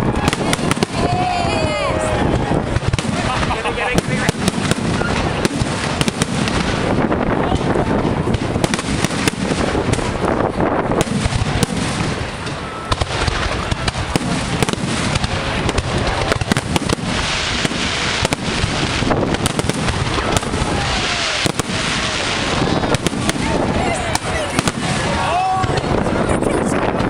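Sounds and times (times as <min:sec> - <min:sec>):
fireworks bursting: 0:00.0 - 0:27.0
fireworks crackling: 0:00.0 - 0:27.0.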